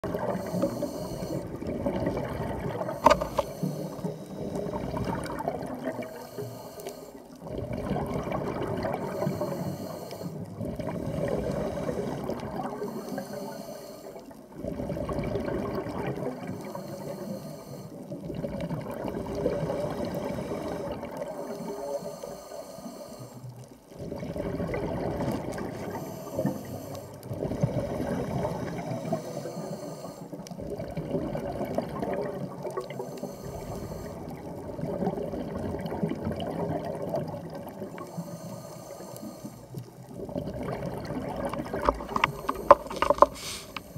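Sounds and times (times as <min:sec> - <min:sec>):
underwater bubbling and gurgling: 0:00.0 - 0:43.9.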